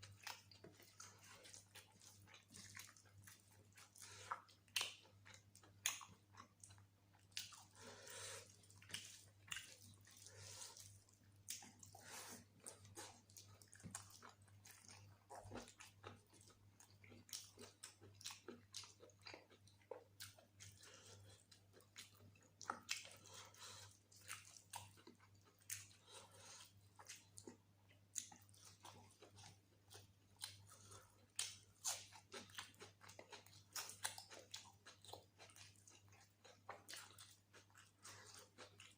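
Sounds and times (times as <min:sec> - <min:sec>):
wet chewing: 0:00.0 - 0:38.9.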